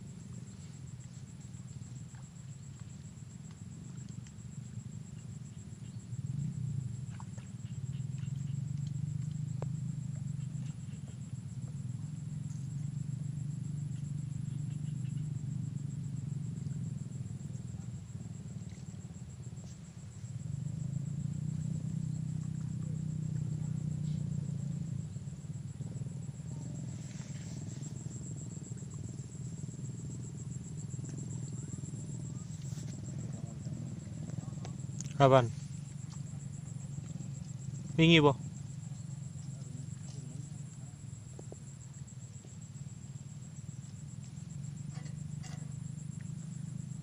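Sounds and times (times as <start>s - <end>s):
insects trilling: 0.0s - 47.0s
low steady rumble: 0.0s - 47.0s.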